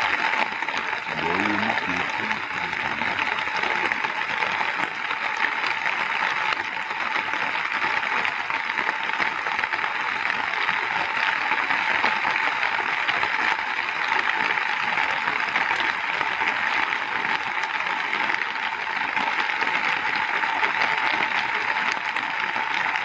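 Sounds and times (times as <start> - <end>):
heavy rain on water: 0.0 - 23.0.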